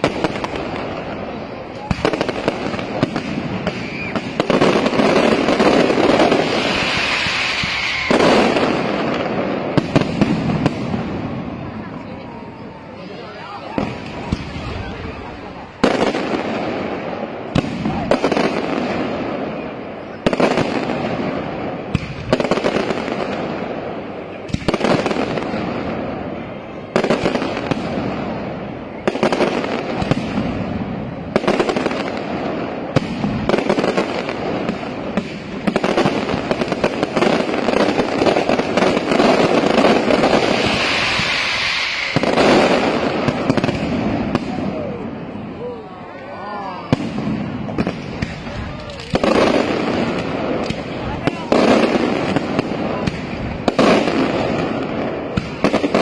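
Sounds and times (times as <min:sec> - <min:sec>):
firework bangs: 0:00.0 - 0:56.0
firework crackle and hiss: 0:00.0 - 0:56.0.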